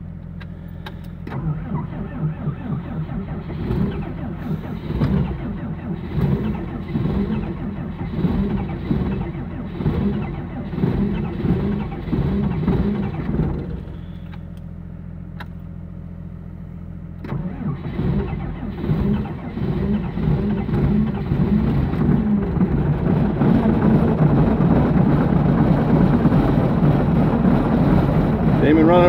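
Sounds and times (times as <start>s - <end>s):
diesel engine running unevenly: 0.0s - 29.0s.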